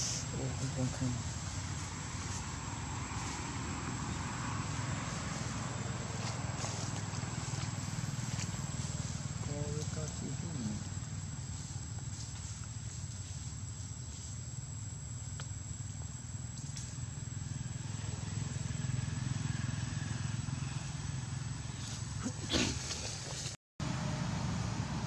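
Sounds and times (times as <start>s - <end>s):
rustle: 0.0s - 23.6s
low outdoor rumble: 0.0s - 25.0s.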